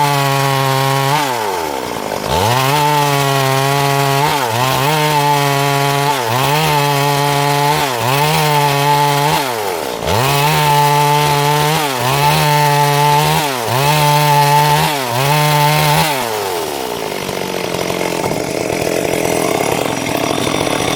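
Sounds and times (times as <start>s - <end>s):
chainsaw cutting wood: 0.0s - 20.9s.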